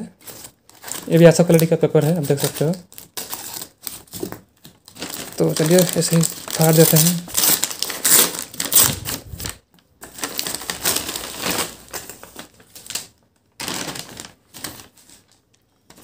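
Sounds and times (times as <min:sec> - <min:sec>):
paper mailer tearing and rustling: 0:00.2 - 0:15.4.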